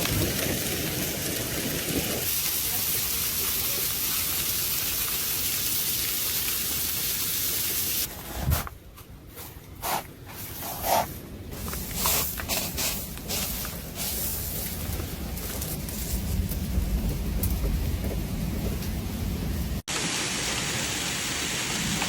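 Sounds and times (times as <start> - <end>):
heavy rain downpour hiss: 0.0 - 8.1, 11.6 - 22.0.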